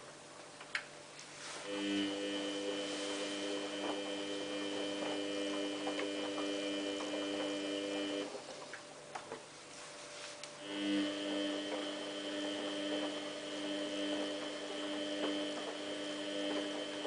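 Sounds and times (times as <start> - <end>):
washing machine electrical hum: 0.0 - 17.0.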